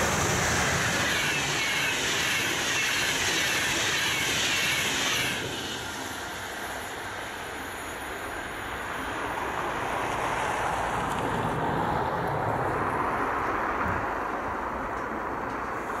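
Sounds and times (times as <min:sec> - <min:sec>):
distant train rumble: 0:00.0 - 0:16.0.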